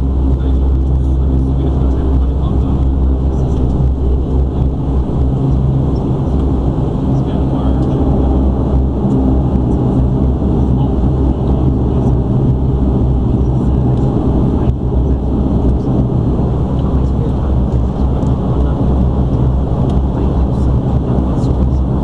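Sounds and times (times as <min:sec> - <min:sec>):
airliner engines droning: 0:00.0 - 0:22.0.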